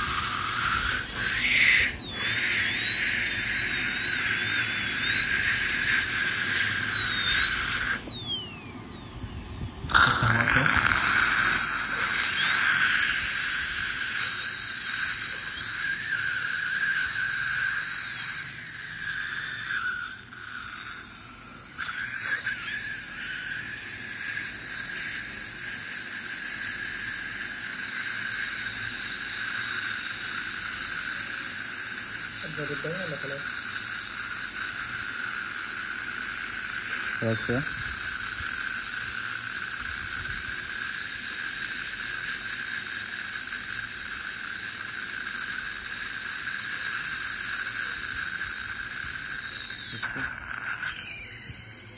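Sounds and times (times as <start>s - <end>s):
dental drill whining: 0.0s - 51.9s.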